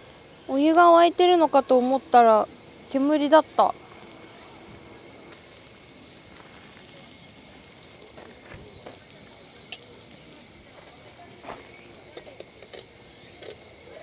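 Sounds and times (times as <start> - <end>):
crickets chirping chorus: 0.0 - 14.0.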